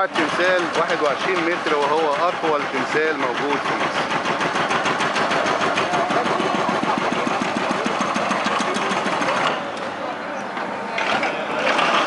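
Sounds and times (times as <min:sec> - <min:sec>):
engine running with rapid pulse: 0:00.0 - 0:12.0.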